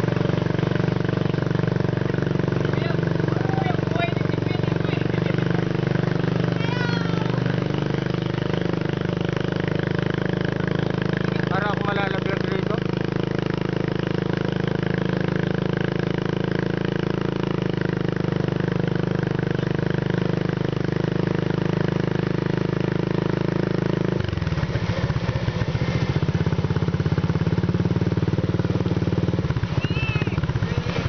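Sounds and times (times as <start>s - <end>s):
atv engine running: 0.0s - 31.0s.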